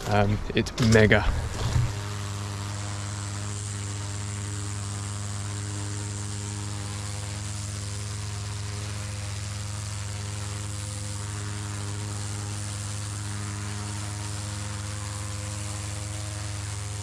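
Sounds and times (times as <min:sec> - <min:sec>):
pressure washer humming: 0:00.8 - 0:17.0
water jet hissing on tiles: 0:01.6 - 0:17.0.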